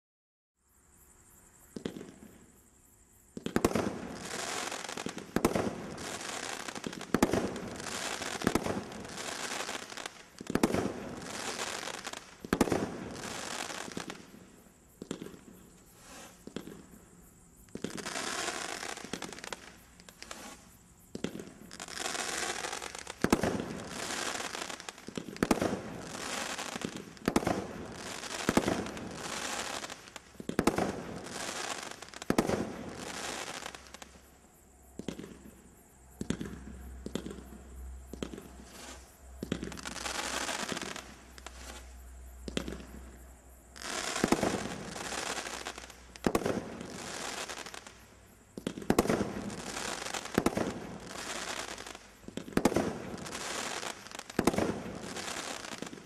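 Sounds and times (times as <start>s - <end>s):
firework crackling: 3.4s - 17.0s, 17.6s - 34.2s, 36.2s - 43.2s, 43.8s - 56.0s.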